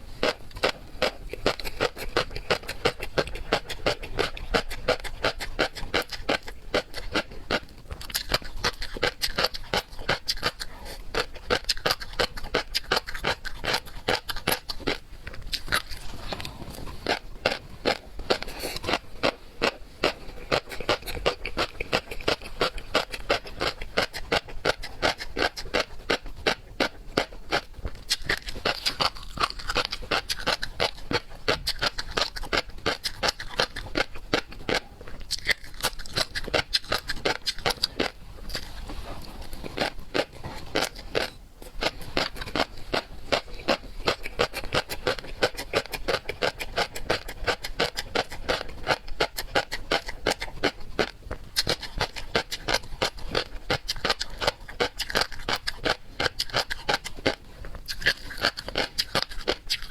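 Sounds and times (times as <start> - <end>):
chewing seafood with wet crunches: 0.0 - 59.9.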